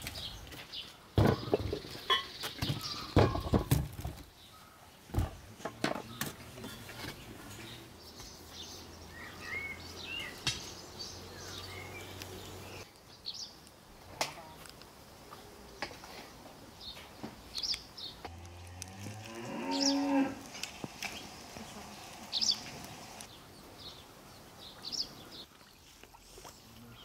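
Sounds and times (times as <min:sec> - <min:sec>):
birds chirping: 0:00.0 - 0:13.6, 0:15.3 - 0:27.0.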